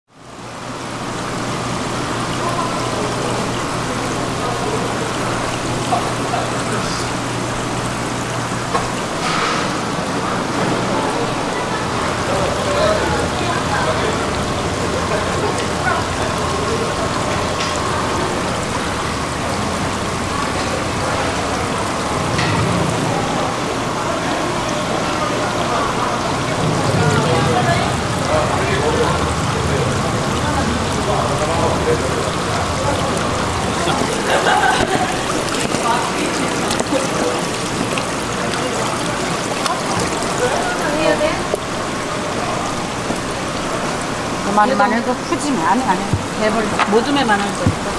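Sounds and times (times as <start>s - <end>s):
running water rushing: 0.1s - 47.9s.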